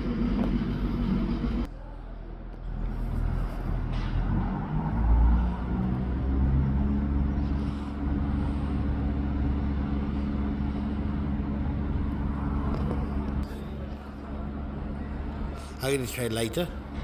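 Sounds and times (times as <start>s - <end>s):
train rumbling with mechanical drone: 0.0s - 1.7s, 2.3s - 17.0s.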